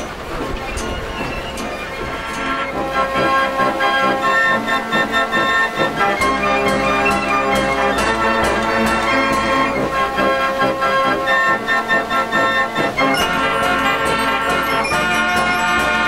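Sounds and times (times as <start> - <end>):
fairground organ playing: 0.0 - 16.0.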